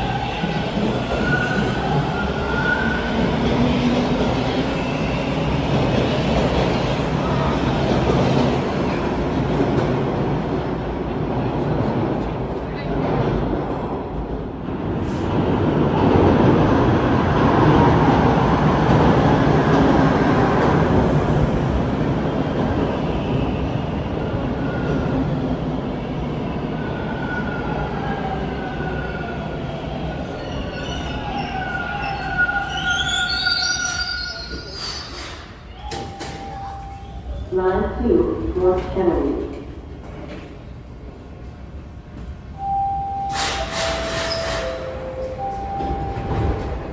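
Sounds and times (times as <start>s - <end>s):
subway train rumbling: 0.0s - 46.9s.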